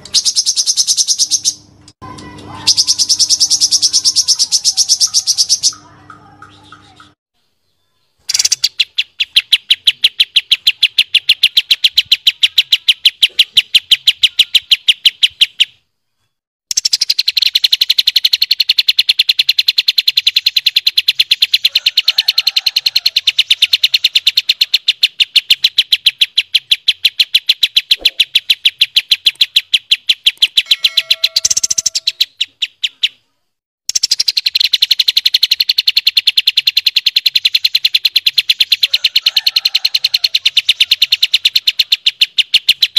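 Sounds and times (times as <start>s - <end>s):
songbird rapid high trill: 0.0s - 1.7s, 2.5s - 6.6s, 8.2s - 15.8s, 16.7s - 33.2s, 33.9s - 42.9s.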